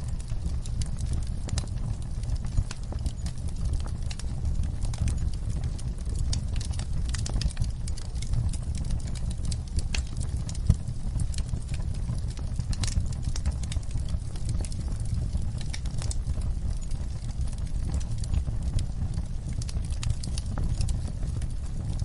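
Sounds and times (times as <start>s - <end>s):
low rumble of burning: 0.0s - 22.0s
wood fire crackling: 0.0s - 22.0s.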